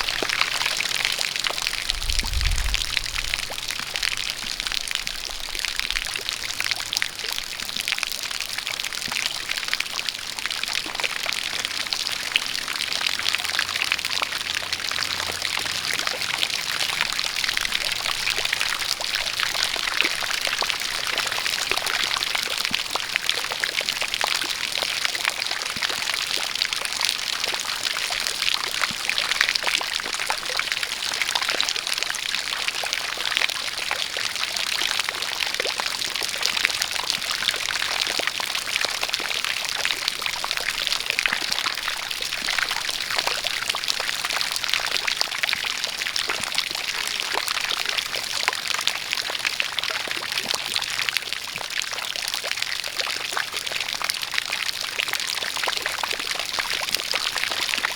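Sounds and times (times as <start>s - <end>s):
pouring stream of water: 0.0s - 57.9s
rain drops pattering: 0.0s - 57.9s.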